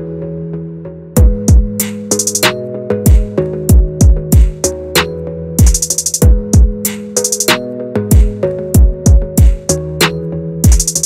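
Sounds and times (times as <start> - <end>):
held synth chords: 0.0 - 11.0
drum-machine beat: 1.2 - 11.0.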